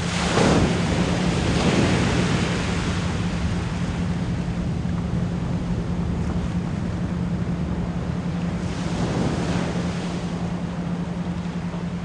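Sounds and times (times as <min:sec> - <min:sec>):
ocean waves washing: 0:00.0 - 0:12.0.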